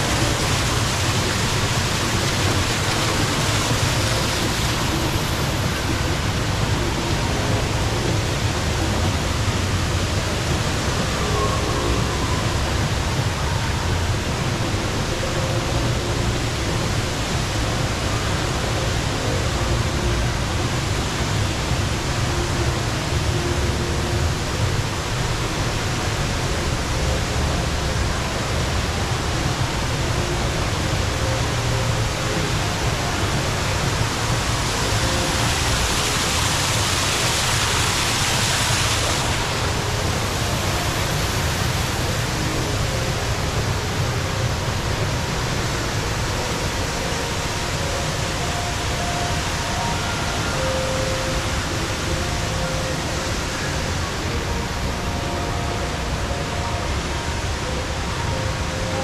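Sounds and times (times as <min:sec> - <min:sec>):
large indoor waterfall rushing: 0:00.0 - 0:59.0.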